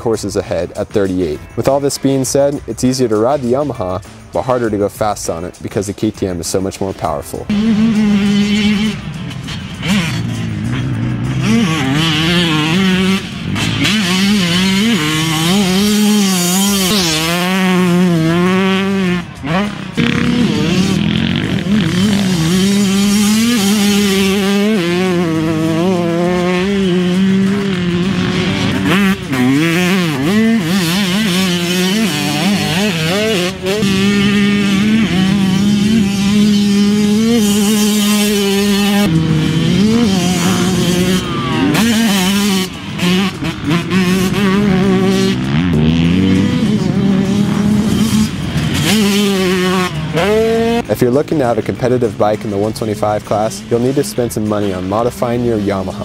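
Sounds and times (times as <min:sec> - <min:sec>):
two-stroke motorcycle engine revving: 0:06.9 - 0:56.0.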